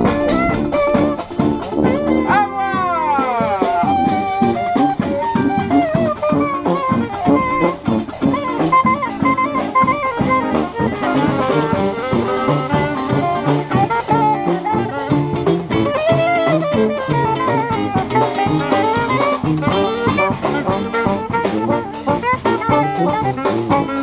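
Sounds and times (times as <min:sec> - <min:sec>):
brass band playing: 0:00.0 - 0:24.0
marching drum beat: 0:00.0 - 0:24.0.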